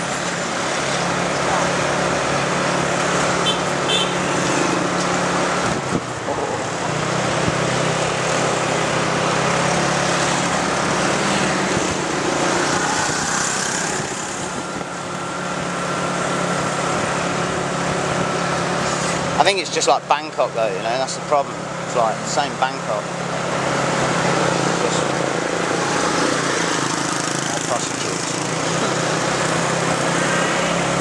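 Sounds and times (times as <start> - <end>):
wind and road noise: 0.0 - 31.0.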